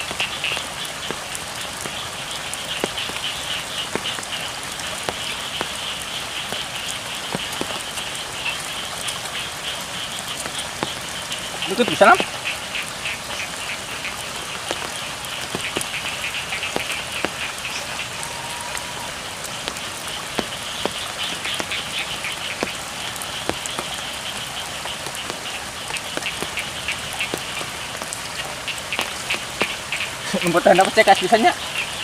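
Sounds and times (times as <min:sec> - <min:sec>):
frogs calling: 0:00.0 - 0:32.0
raindrops ticking: 0:00.0 - 0:32.0
steady rain falling: 0:00.0 - 0:32.0.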